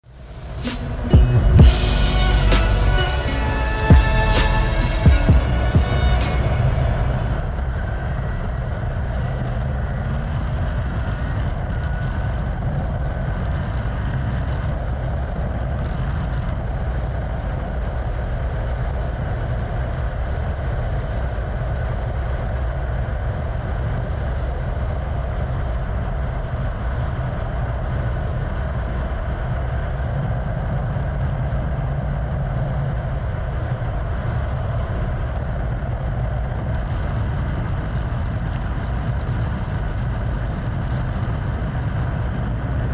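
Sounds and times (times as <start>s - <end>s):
wind rumble on microphone: 7.3s - 42.9s.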